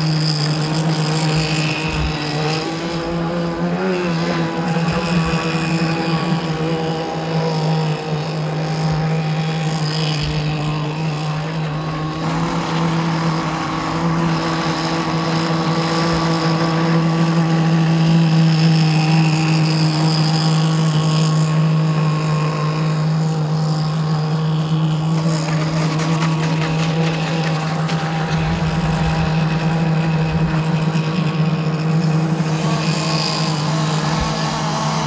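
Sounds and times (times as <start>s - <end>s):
model boat engine running: 0.0s - 35.0s.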